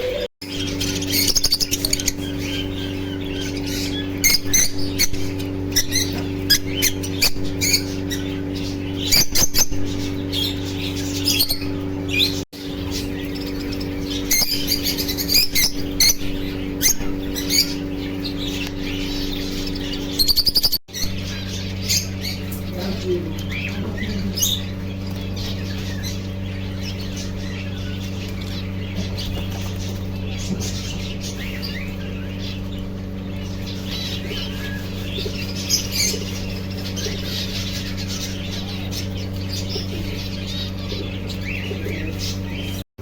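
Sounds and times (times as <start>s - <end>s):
small birds chirping: 0.0s - 42.8s
steady low hum: 0.0s - 42.9s.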